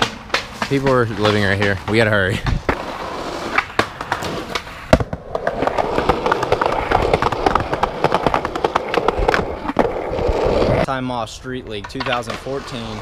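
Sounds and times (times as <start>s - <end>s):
sharp skateboard clack: 0.0s - 10.8s
skateboard wheels rolling on concrete: 0.0s - 13.0s.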